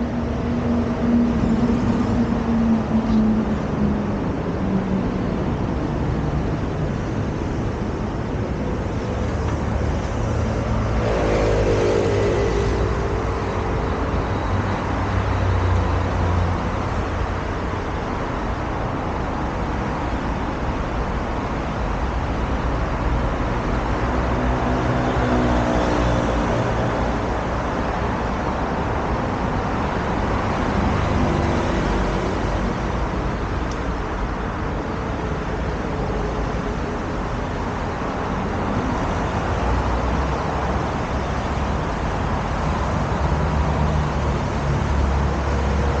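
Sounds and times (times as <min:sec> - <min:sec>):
low rumble of heavy vehicles: 0:00.0 - 0:46.0
road traffic tyre hiss: 0:00.0 - 0:46.0
vehicle engine hum: 0:00.0 - 0:46.0.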